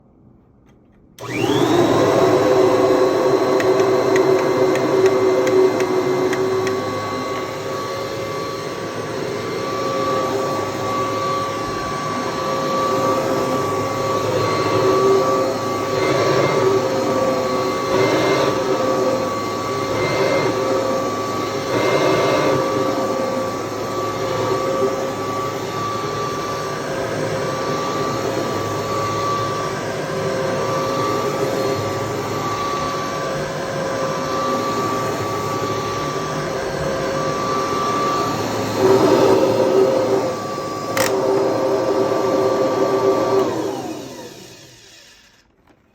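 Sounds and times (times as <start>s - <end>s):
vacuum cleaner running: 1.2s - 45.9s.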